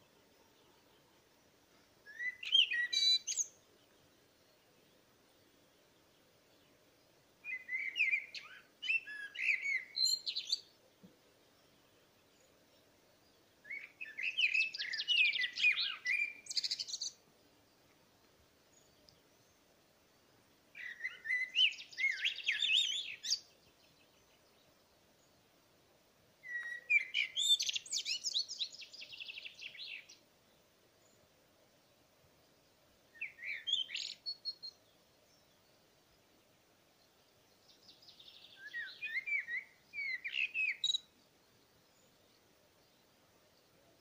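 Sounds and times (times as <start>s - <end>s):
songbird singing: 0.0s - 44.0s.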